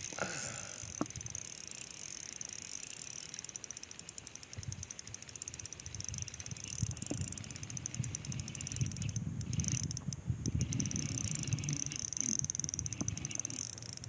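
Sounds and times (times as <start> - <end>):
fishing reel whirring: 0.0 - 14.0.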